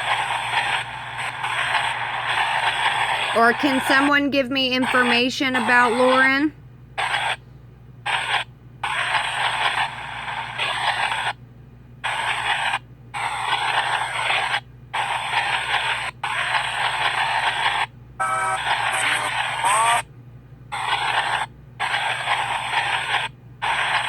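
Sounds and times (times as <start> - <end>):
radio static bursts: 0.0 - 7.4, 8.1 - 11.4, 12.0 - 20.1, 20.8 - 24.0.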